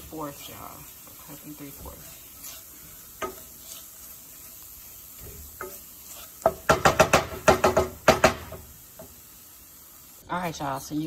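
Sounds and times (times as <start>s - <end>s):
faint sizzling: 0.0s - 11.0s
wooden spoon stirring in pan: 0.0s - 11.0s.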